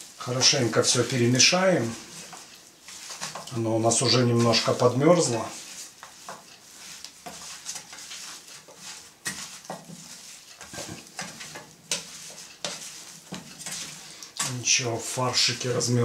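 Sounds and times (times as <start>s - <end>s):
hands mixing meat: 0.0s - 16.0s.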